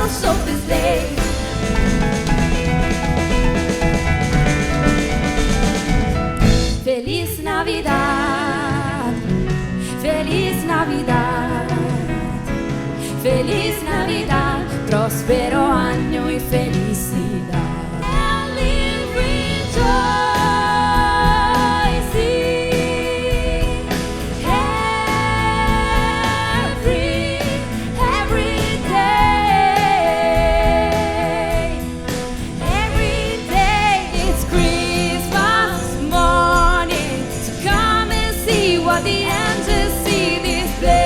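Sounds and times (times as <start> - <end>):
live gospel band playing: 0.0 - 41.0.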